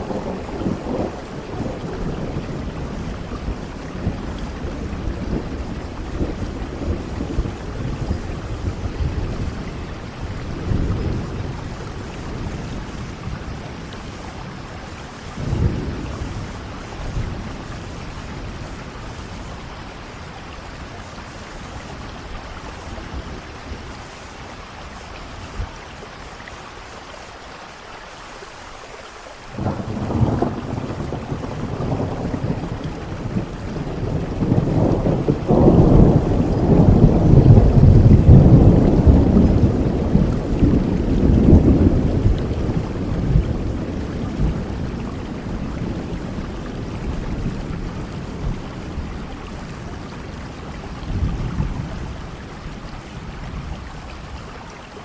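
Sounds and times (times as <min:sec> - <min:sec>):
rolling thunder: 0:00.0 - 0:25.8, 0:29.5 - 0:54.6
steady rain: 0:00.0 - 0:55.0.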